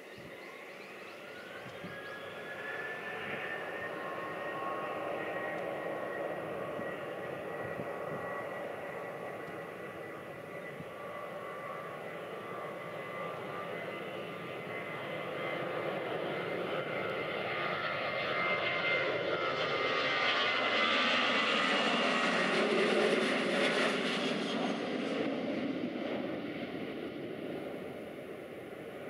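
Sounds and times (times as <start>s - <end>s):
jet airliner engines at takeoff: 0.0s - 29.0s.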